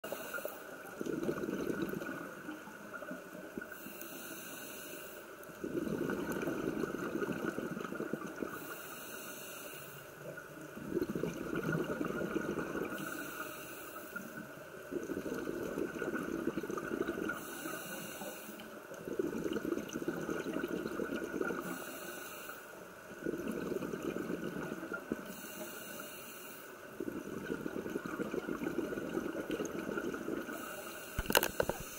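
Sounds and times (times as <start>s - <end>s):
bubbling exhale: 0.0s - 2.4s, 3.6s - 10.0s, 10.8s - 14.0s, 14.9s - 22.6s, 23.2s - 31.9s.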